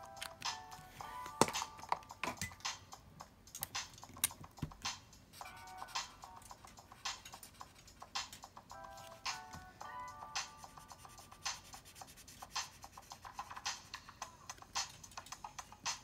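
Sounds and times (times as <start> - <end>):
simple electronic music: 0.0 - 16.0.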